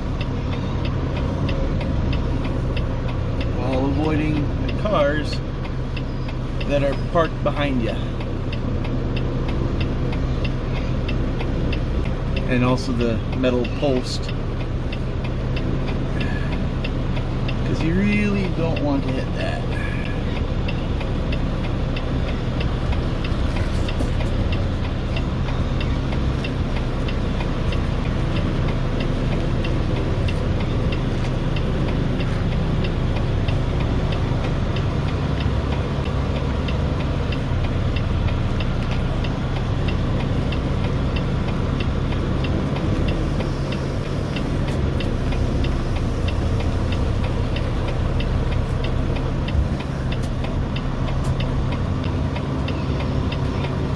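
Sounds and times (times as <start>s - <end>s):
regular ticking: 0.0s - 53.9s
truck diesel engine running: 0.0s - 53.9s.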